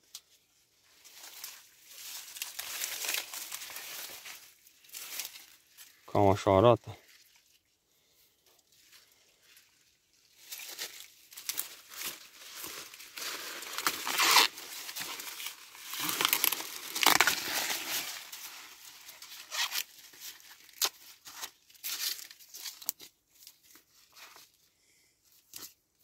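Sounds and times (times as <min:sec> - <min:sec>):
corn husks tearing: 0:00.9 - 0:07.5, 0:10.2 - 0:24.4.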